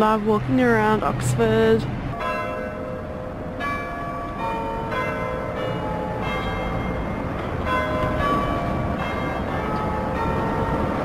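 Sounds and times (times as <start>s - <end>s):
church bells ringing: 0.0s - 11.0s
street noise rumble: 0.0s - 11.0s.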